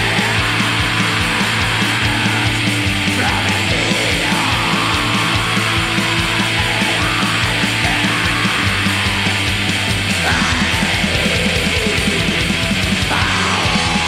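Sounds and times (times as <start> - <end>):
distorted guitars: 0.0 - 14.0
steady drum beat: 0.0 - 14.0.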